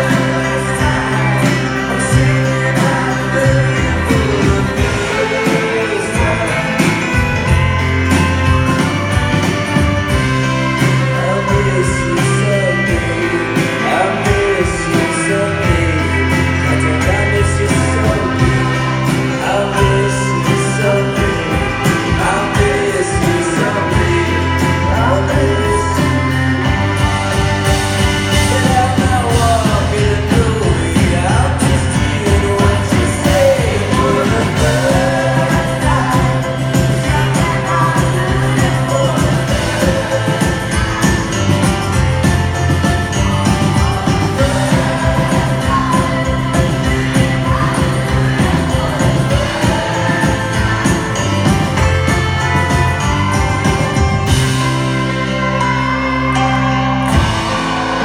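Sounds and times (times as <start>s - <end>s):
drum beat: 0.0s - 54.8s
held bass notes: 0.0s - 58.0s
voices singing: 0.0s - 58.0s.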